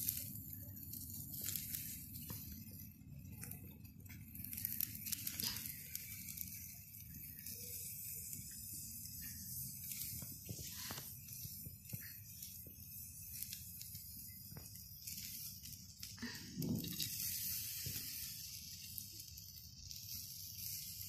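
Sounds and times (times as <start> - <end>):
embers crackling: 0.0 - 21.0
meat sizzling on a grill: 0.0 - 21.0.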